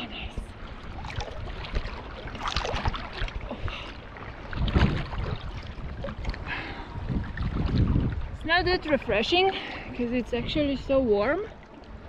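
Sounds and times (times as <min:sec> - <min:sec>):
low rumble on microphone: 0:00.0 - 0:12.0
water splashing and sloshing: 0:00.0 - 0:12.0.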